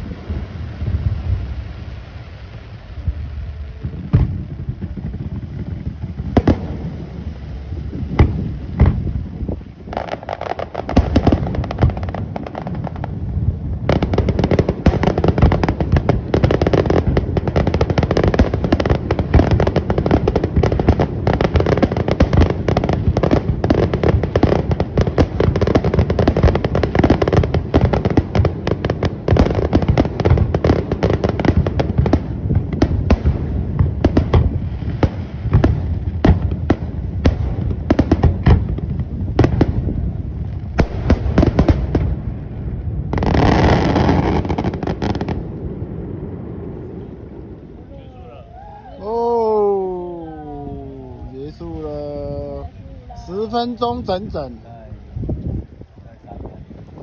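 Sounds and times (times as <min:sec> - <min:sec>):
fireworks bangs: 0:00.0 - 0:54.6
crackling fireworks barrage: 0:00.0 - 0:57.0.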